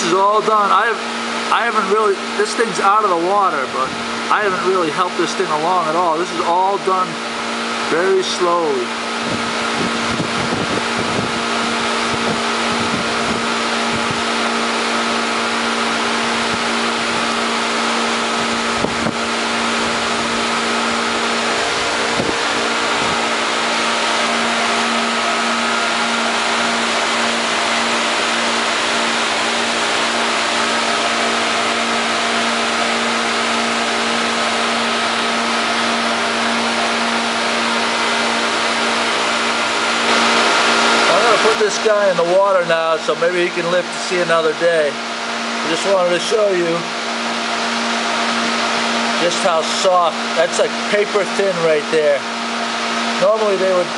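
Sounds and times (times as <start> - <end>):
machinery hum: 0.0 - 53.9.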